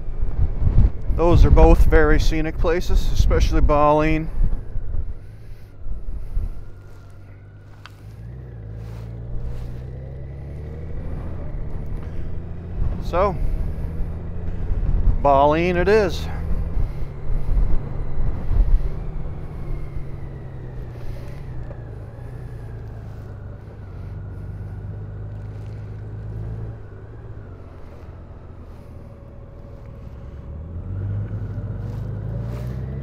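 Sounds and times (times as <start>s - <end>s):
wind rushing over microphone: 0.0s - 33.0s
motorcycle engine running: 3.0s - 33.0s.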